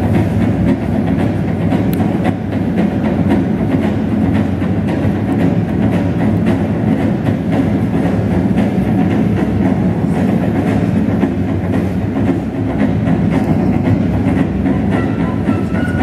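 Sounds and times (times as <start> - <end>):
music over sound system: 0.0 - 16.0.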